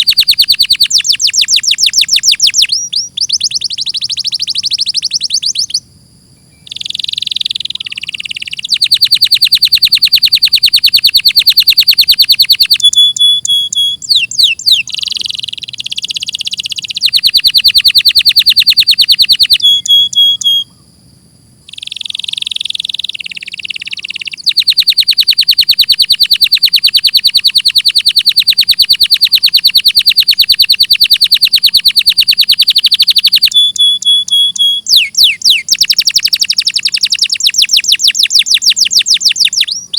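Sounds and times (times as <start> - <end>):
canary singing trills: 0.0 - 21.0, 21.6 - 39.9.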